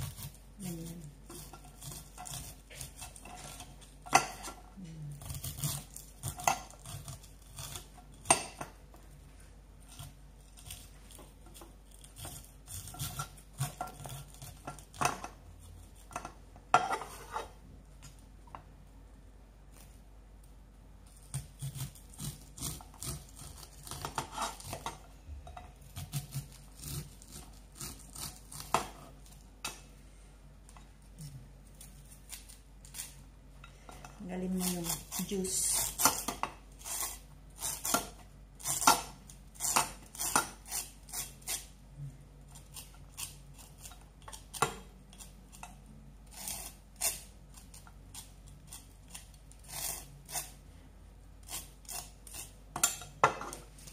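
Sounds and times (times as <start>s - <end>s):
knife scraping corn cob: 0.0s - 8.7s, 9.8s - 17.6s, 21.1s - 25.0s, 25.7s - 29.4s, 31.2s - 33.2s, 34.3s - 41.8s, 42.4s - 50.6s, 51.4s - 53.9s.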